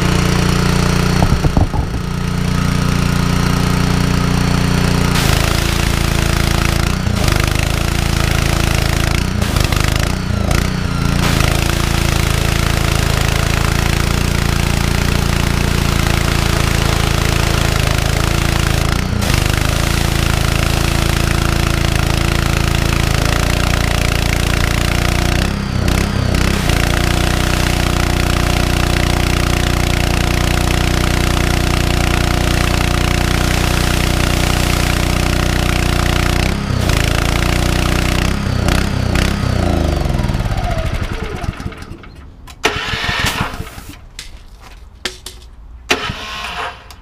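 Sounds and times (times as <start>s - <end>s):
pressure washer spraying water: 0.0s - 41.7s
engine winding down: 0.0s - 44.2s, 45.9s - 47.0s
petrol engine running: 0.0s - 47.0s.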